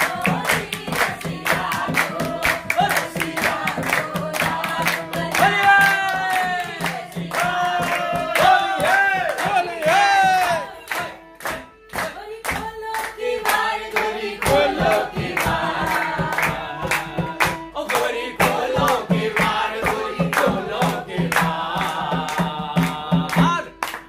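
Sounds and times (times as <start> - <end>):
group singing folk song: 0.0 - 24.0
rhythmic hand-clapping: 0.0 - 24.0.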